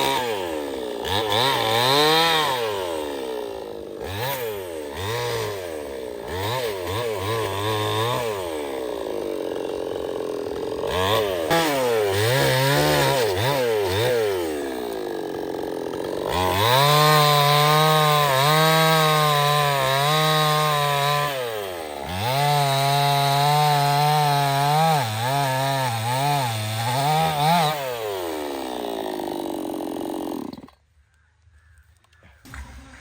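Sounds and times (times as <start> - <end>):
chainsaw revving: 0.0 - 30.8.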